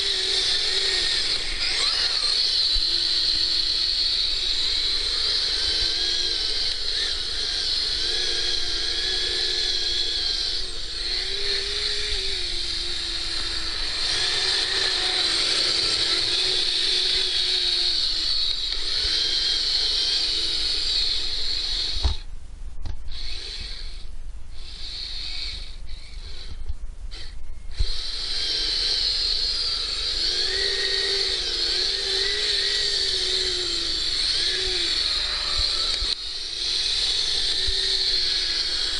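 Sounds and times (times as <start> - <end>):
electric motor whining: 0.0 - 22.3, 23.1 - 38.9.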